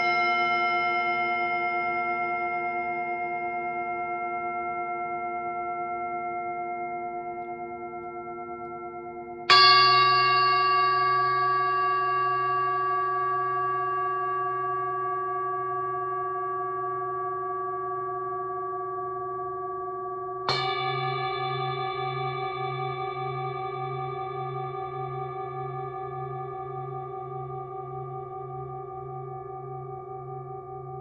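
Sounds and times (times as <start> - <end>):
singing bowl ringing: 0.0 - 31.0.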